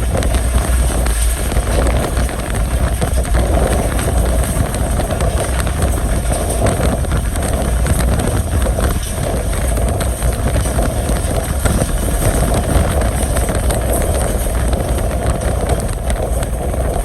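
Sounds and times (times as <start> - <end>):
train wheels rumbling on track: 0.0 - 17.0
wind buffeting microphone: 0.0 - 17.0.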